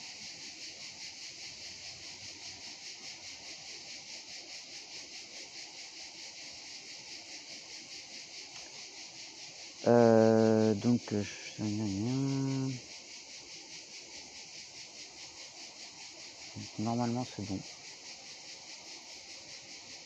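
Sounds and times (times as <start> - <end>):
insects chorus pulsing: 0.0 - 20.0.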